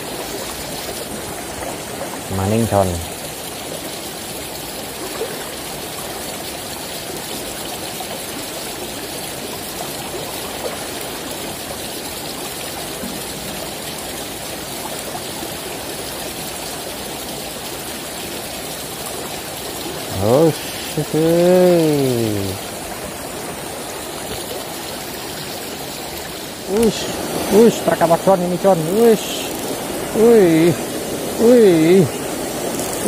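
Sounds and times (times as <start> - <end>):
shallow river flowing: 0.0 - 33.0.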